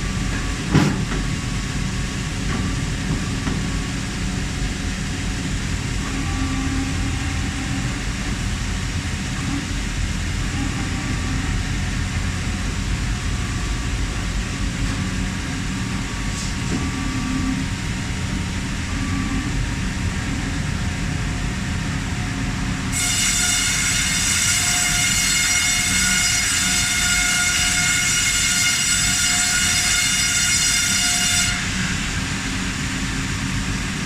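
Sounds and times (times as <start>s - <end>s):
high-pitched whine: 1.7s - 34.0s.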